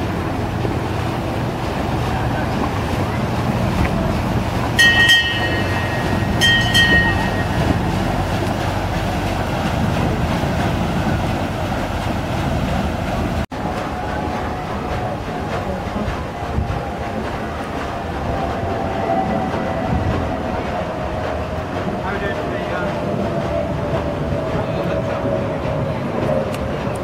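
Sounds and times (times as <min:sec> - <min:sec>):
paddle wheel churning water: 0:00.0 - 0:27.0.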